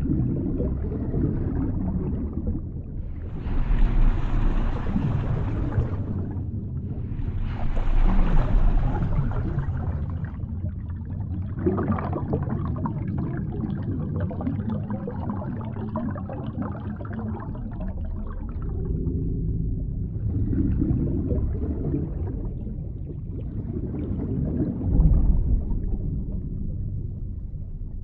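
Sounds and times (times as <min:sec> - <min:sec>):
low rumble: 0:00.0 - 0:14.7, 0:17.4 - 0:28.0
water gurgling and sloshing: 0:00.0 - 0:28.0.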